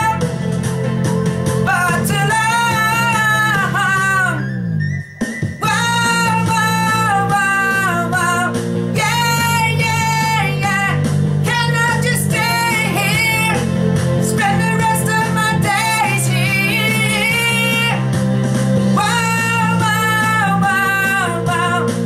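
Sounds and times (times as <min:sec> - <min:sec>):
backing music: 0:00.0 - 0:22.0
man singing: 0:01.6 - 0:04.5, 0:05.6 - 0:18.0, 0:19.0 - 0:22.0.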